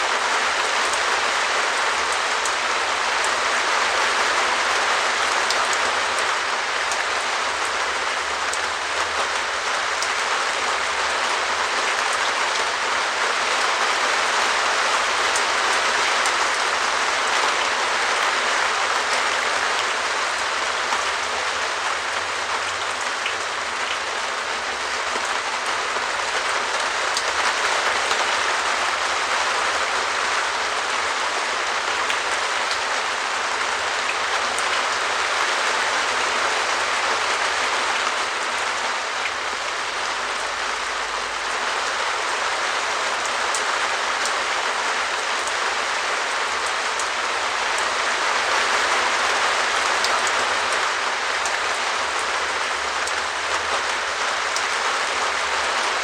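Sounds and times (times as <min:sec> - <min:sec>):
rain pattering on plastic roof: 0:00.0 - 0:56.0.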